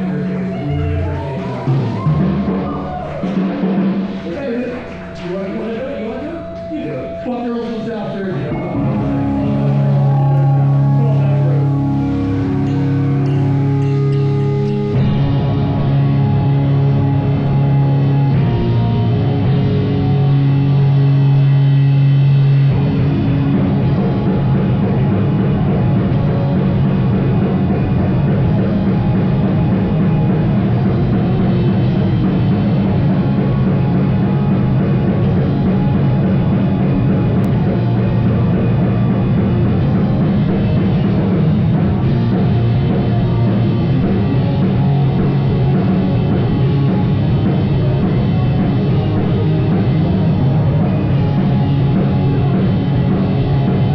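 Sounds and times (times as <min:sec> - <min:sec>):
drum kit: 0:00.0 - 0:53.9
live rock band playing: 0:00.0 - 0:53.9.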